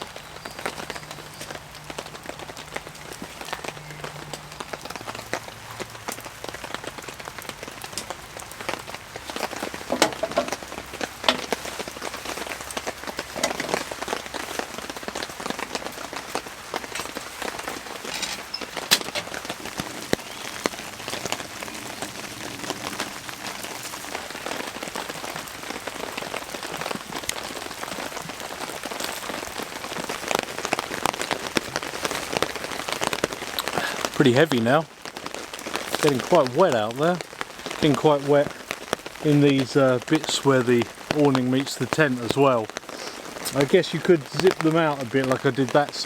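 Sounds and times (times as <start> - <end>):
heavy rain on a tent: 0.0 - 46.0.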